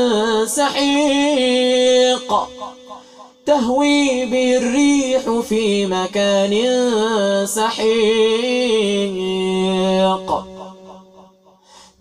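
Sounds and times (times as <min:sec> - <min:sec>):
man chanting melodically: 0:00.0 - 0:11.4.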